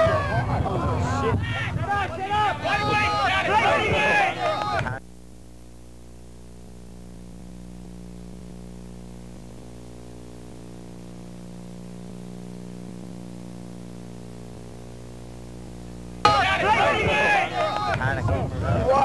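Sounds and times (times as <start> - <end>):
electrical hum: 0.0 - 19.0
tape hiss: 0.0 - 19.0.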